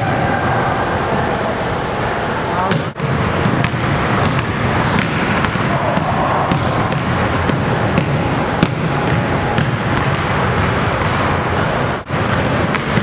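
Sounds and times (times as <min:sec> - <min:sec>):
echoing gym background: 0:00.0 - 0:13.0.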